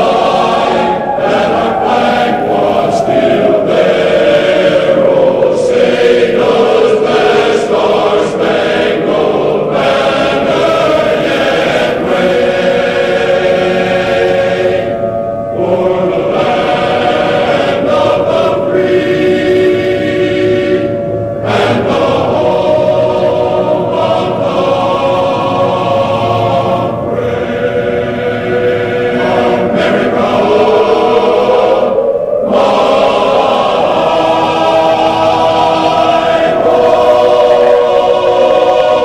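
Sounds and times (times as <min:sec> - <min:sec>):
choir singing held notes: 0:00.0 - 0:39.0.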